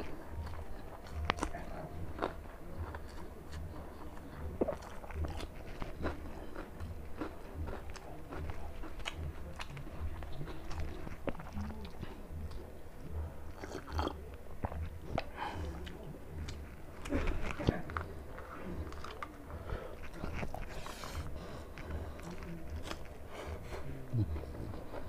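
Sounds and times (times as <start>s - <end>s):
close-up chewing: 0.0s - 25.0s.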